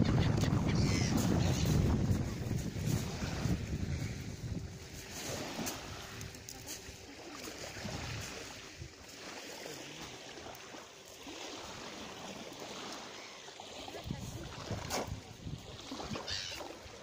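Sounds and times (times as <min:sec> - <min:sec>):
small waves washing at shore: 0:00.0 - 0:17.0.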